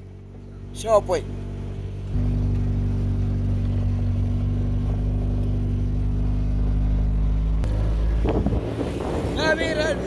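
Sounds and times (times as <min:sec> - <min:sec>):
car engine drone from cabin: 0:00.0 - 0:10.0.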